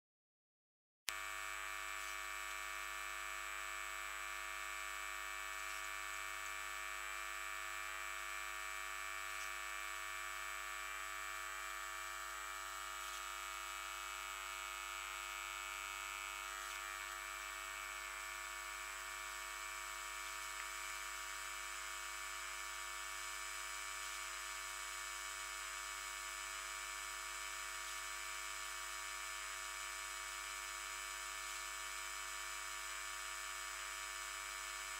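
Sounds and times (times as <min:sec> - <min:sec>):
high electrical buzz: 0:01.1 - 0:34.9.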